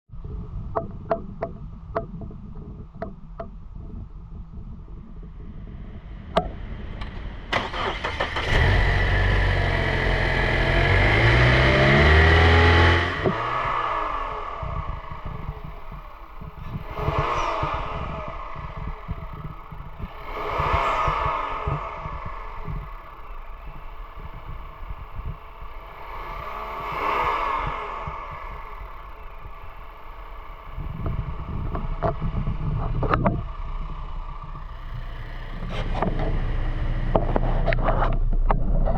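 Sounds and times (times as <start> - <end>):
car engine starting and idling: 6.2 - 38.4.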